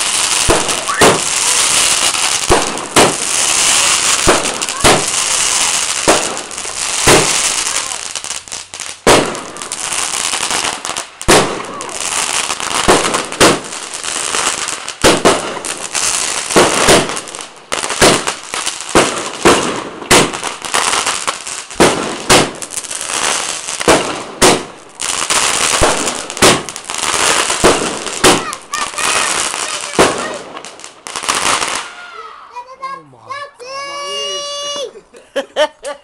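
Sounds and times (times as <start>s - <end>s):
fireworks bangs: 0.0s - 34.9s
high firework hiss: 0.0s - 34.9s.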